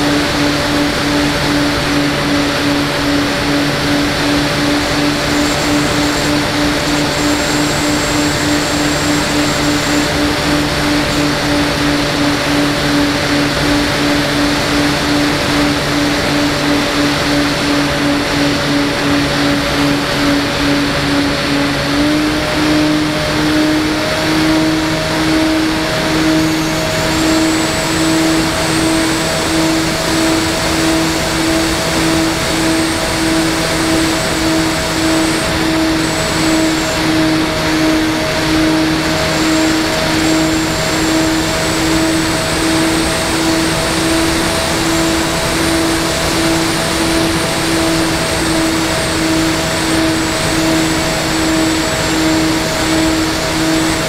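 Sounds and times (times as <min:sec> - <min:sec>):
electric motor and propeller hum: 0:00.0 - 0:54.0.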